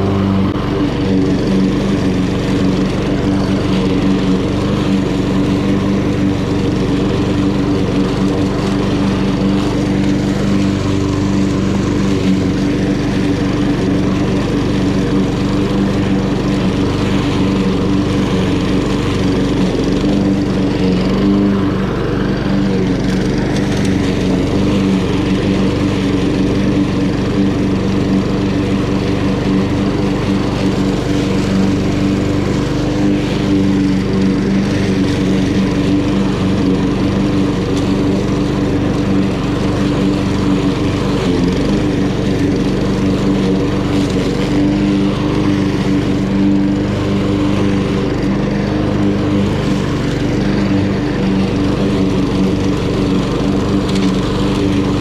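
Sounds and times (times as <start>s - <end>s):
lawn mower cutting grass: 0.0s - 55.0s.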